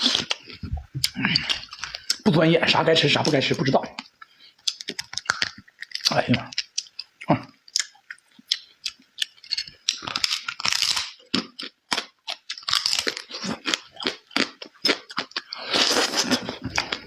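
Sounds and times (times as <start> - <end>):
person chewing food: 0.0 - 2.3, 3.9 - 17.0.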